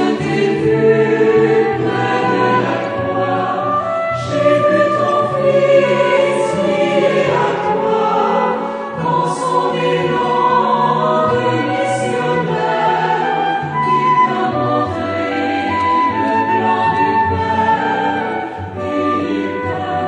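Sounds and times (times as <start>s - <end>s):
choir singing sacred music: 0.0s - 20.0s.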